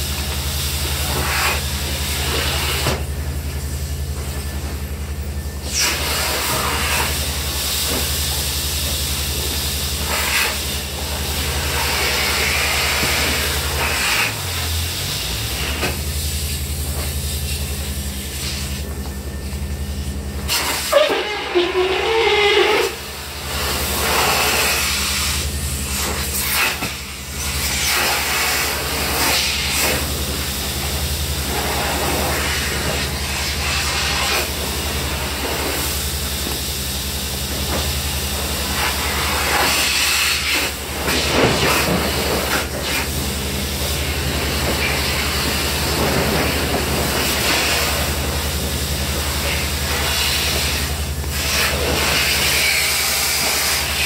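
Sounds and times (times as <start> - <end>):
vacuum hose sucking grit: 0.0 - 3.2, 5.6 - 19.0, 19.9 - 54.0
low machine hum: 0.0 - 54.0.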